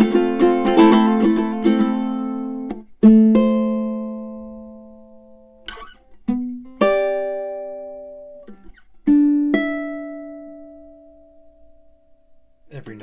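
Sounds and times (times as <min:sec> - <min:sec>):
ukulele plucked notes and chords: 0:00.0 - 0:12.4.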